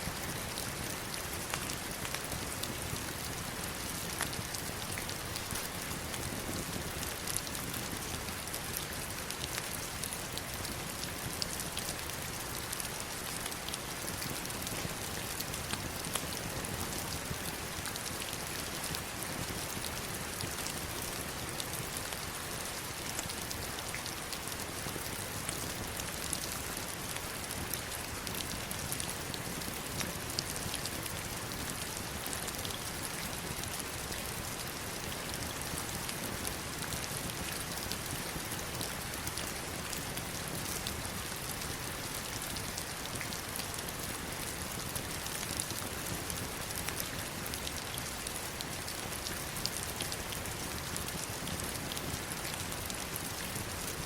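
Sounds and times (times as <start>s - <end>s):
heavy rain on stones and water: 0.0s - 54.0s.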